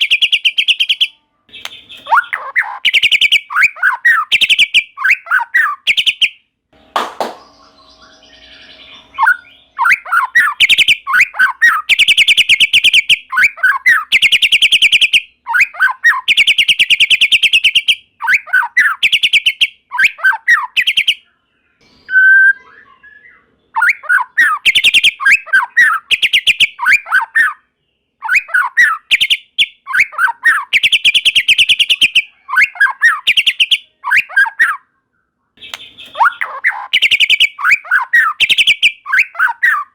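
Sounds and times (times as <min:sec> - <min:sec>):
bird singing: 0:00.0 - 0:06.4, 0:07.0 - 0:34.9, 0:35.6 - 0:39.9.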